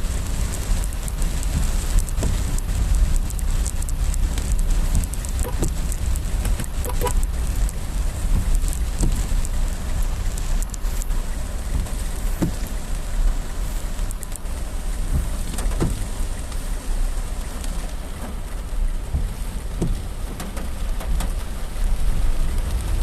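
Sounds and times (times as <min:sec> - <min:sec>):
heavy rain pouring: 0:00.0 - 0:23.0
low rumble: 0:00.0 - 0:23.0.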